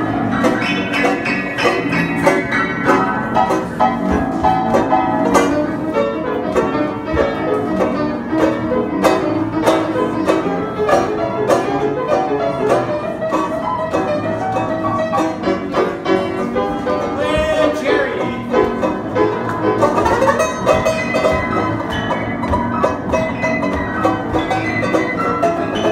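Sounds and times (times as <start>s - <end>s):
upright piano playing: 0.0s - 25.9s
banjo plucked: 0.4s - 25.9s.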